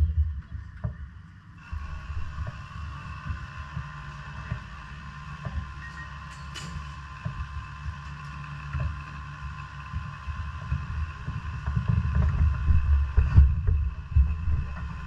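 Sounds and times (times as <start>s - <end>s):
race car engine rumble: 0.0s - 15.0s.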